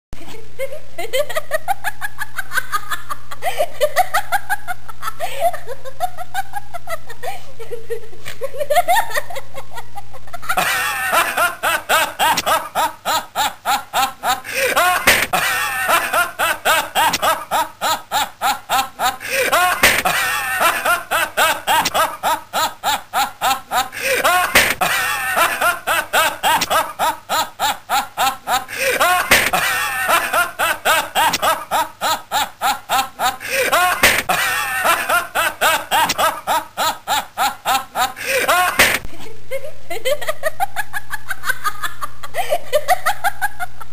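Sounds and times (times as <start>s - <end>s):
person laughing: 0.2s - 43.8s.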